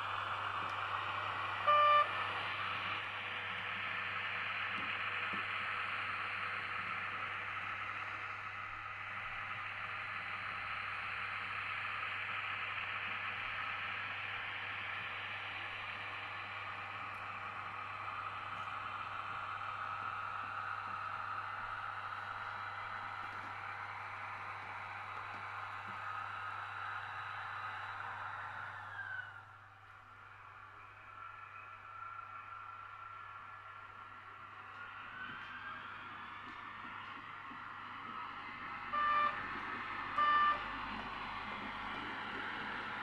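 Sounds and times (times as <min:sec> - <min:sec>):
model train wheels rolling on rails: 0:02.3 - 0:43.0.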